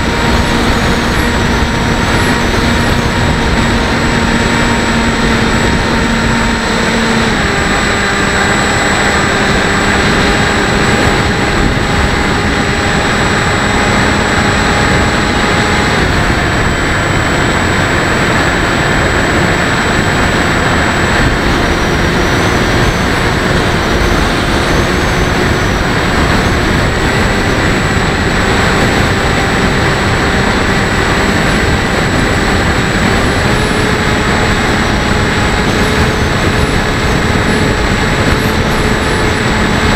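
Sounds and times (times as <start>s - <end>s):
model plane motor and propeller: 0.0s - 39.9s
wind rush on microphone: 0.0s - 39.9s.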